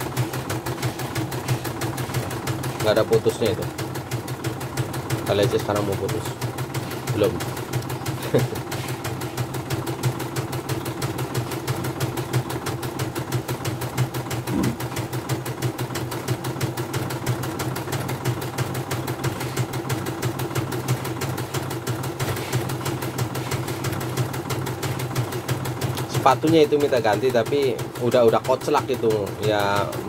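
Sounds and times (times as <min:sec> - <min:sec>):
embroidery machine stitching: 0:00.0 - 0:30.0.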